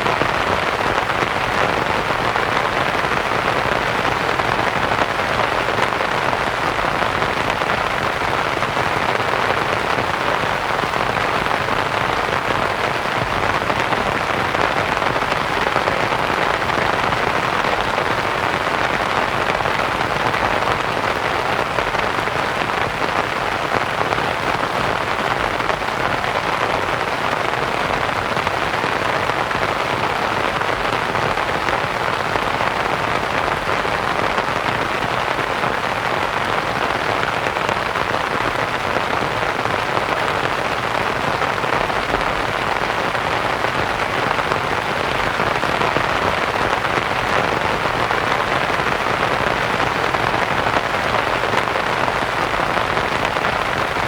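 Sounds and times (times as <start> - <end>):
rain pattering on a tent: 0.0 - 54.0.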